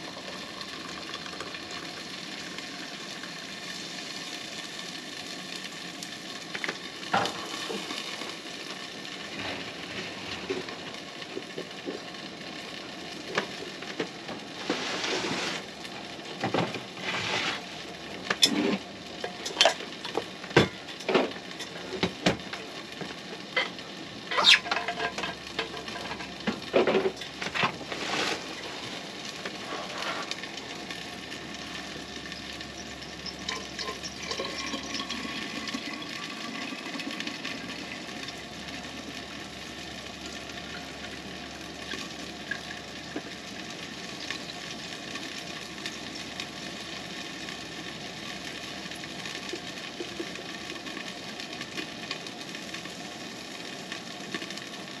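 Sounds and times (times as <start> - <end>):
eggs sizzling in a pan: 0.0 - 55.0.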